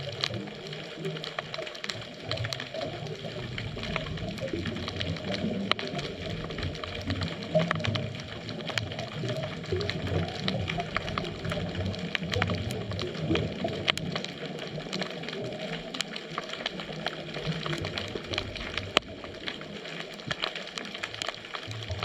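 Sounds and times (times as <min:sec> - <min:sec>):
rumble of moving water: 0:00.0 - 0:22.0
underwater clicks and crackles: 0:00.0 - 0:22.0.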